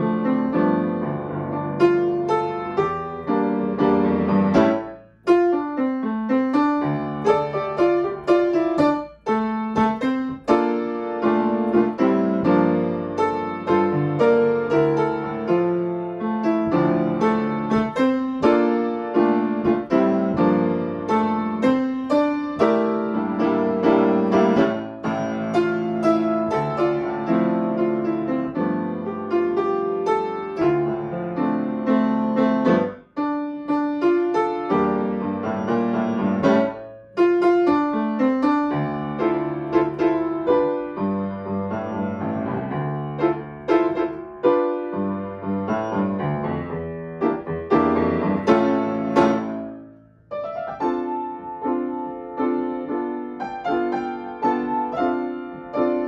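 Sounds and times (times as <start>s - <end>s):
grand piano piece: 0.0s - 56.0s.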